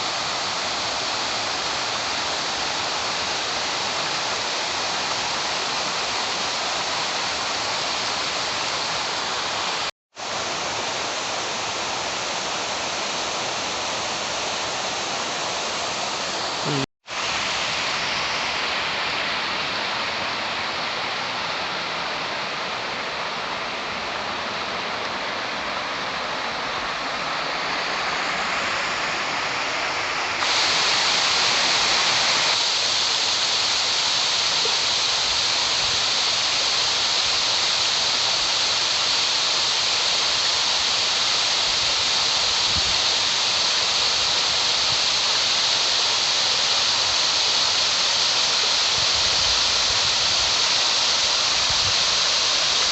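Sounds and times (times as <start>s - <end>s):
mountain stream cascading: 0.0s - 52.9s.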